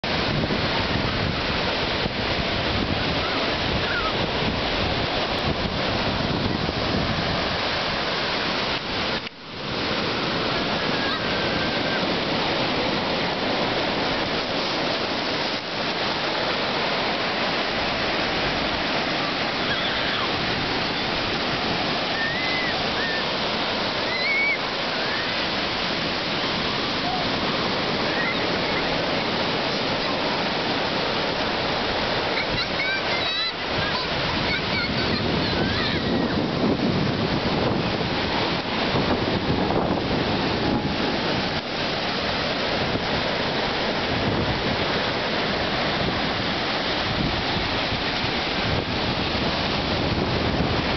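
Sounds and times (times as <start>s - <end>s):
ocean surf breaking: 0.0s - 50.9s.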